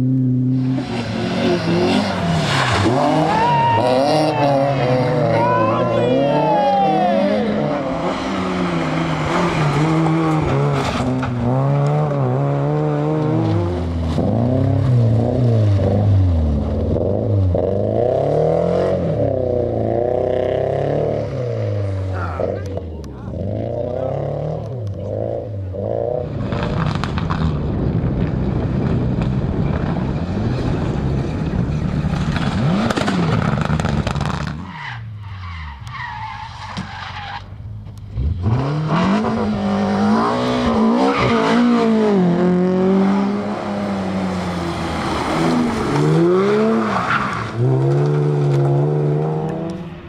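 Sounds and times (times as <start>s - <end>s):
rally car engines at full throttle: 0.0s - 50.0s.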